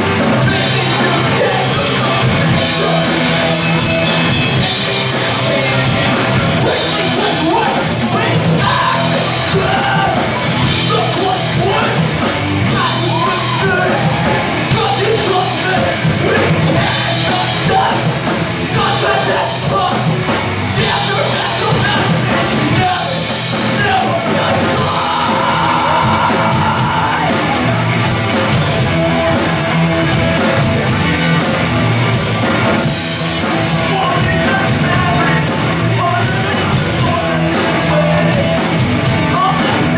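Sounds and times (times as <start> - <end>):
live punk band playing: 0.0 - 39.9
singer yelling: 0.4 - 28.3, 33.6 - 38.6.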